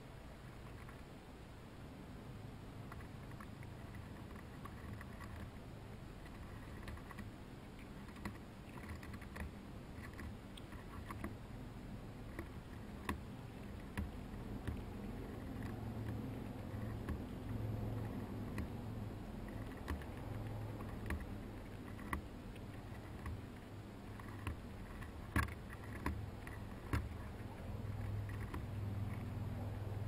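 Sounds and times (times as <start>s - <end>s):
chipmunk gnawing corn: 0.0s - 1.2s, 2.6s - 30.0s
low steady rumble: 0.0s - 30.0s.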